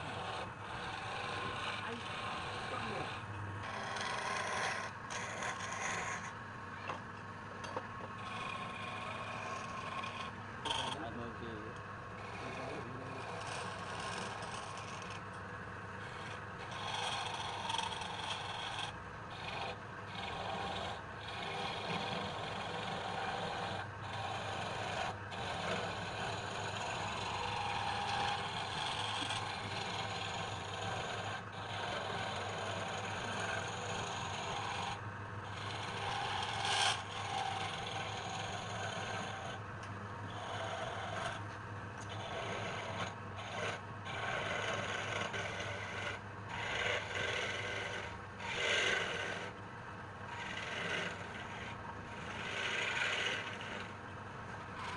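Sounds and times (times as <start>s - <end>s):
turning tool scraping wood: 0.0s - 7.0s, 7.6s - 49.6s, 50.3s - 54.9s
wood lathe humming: 0.0s - 7.0s, 7.6s - 54.9s.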